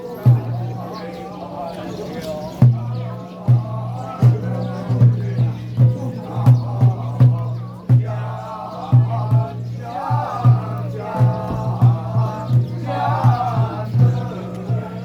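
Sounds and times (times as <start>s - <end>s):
people chanting: 0.0s - 15.0s
percussion strokes: 2.6s - 15.0s.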